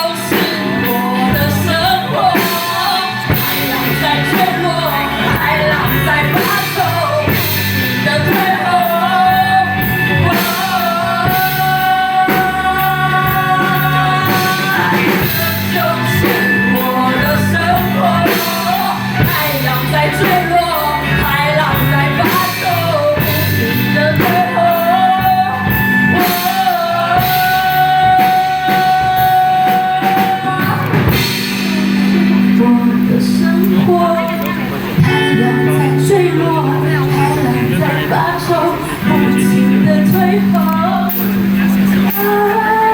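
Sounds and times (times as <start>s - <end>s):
bass guitar: 0.0s - 42.9s
drum kit: 0.0s - 42.9s
electric guitars: 0.0s - 42.9s
person singing: 0.0s - 42.9s.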